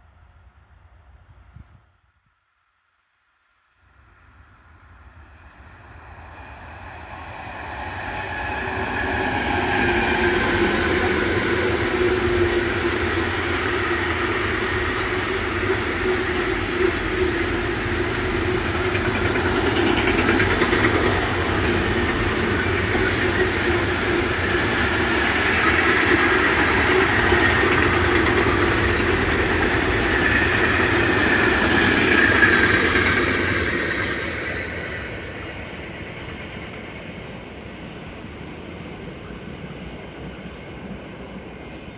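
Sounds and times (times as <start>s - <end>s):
freight train wheels on rail: 4.0s - 41.9s.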